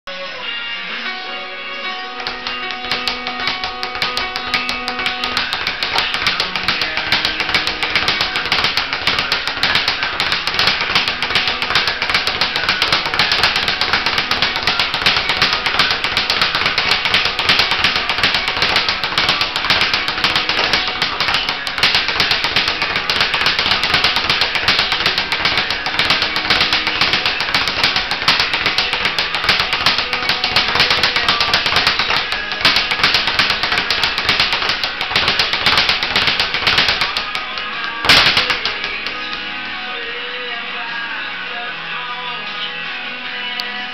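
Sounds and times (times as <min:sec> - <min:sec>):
faint guitar music: 0:00.1 - 0:43.9
speed bag rattling: 0:02.2 - 0:37.4, 0:38.0 - 0:39.1.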